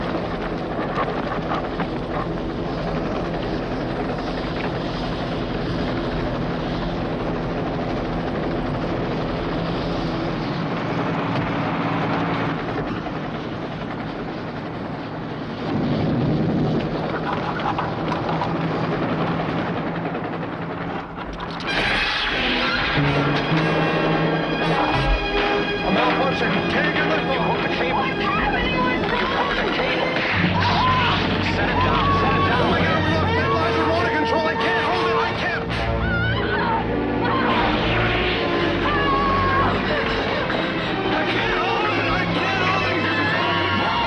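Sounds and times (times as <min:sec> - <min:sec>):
helicopter rotor and engine drone: 0:00.0 - 0:44.0.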